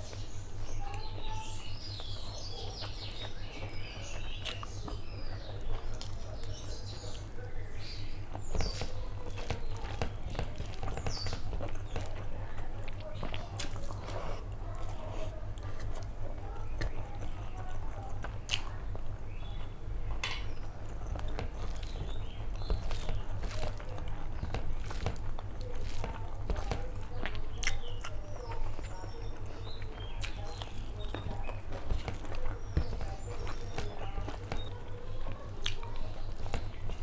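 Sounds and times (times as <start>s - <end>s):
fingers squishing rice on a plate: 0.0s - 37.0s
wet chewing and smacking: 0.0s - 37.0s.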